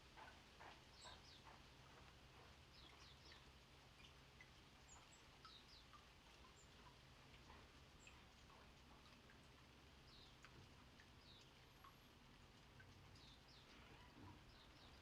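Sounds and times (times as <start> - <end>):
small songbirds chirping: 0.2 - 15.0.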